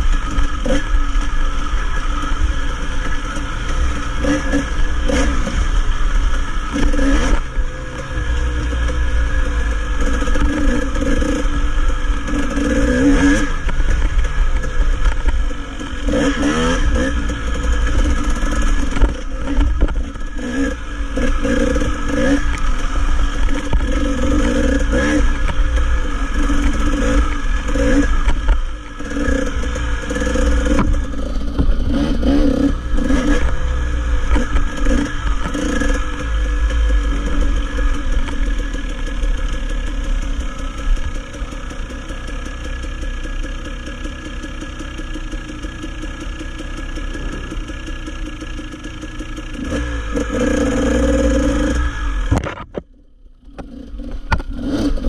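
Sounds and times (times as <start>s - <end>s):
dirt bike engine revving: 0.0s - 52.6s, 53.4s - 55.0s.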